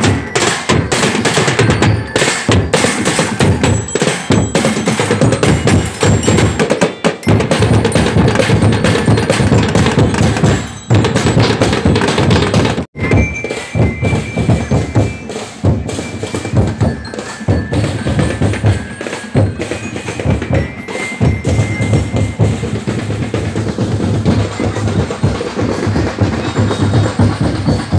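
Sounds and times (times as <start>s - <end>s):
percussion band drumming on barrels: 0.0s - 27.9s.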